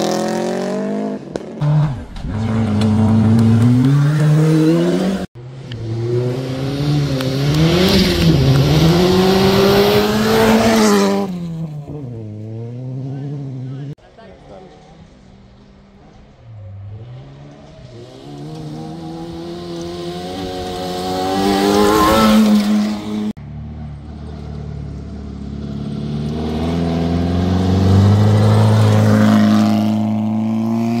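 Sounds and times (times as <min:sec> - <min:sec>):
rally car engine approaching: 0:00.0 - 0:31.0.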